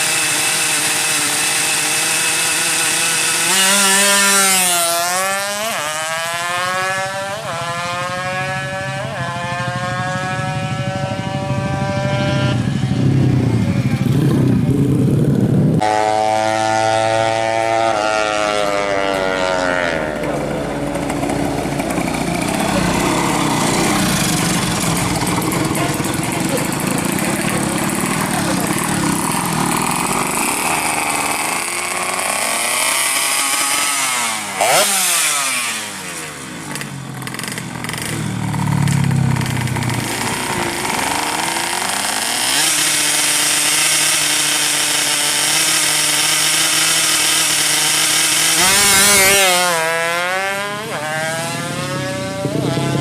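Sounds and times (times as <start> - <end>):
two-stroke motorcycle engine: 0.0 - 53.0.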